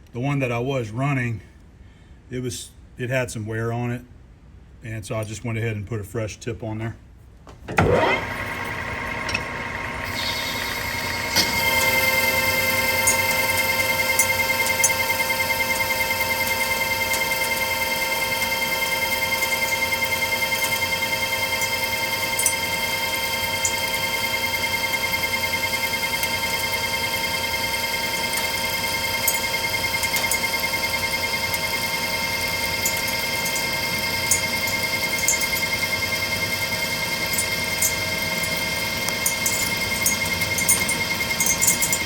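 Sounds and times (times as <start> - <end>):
lathe gearing whine: 7.8 - 42.0.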